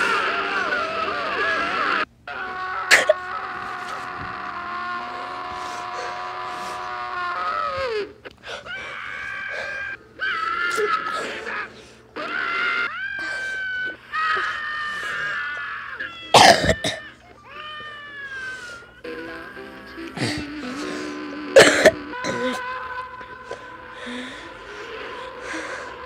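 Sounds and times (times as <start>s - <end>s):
cartoon characters screaming: 0.0s - 18.8s, 20.3s - 26.0s.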